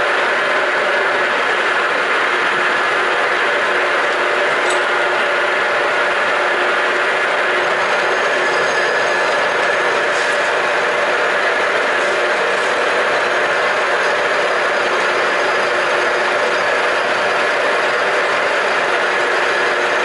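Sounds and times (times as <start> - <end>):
machine tool gear drive whirring: 0.0 - 20.0.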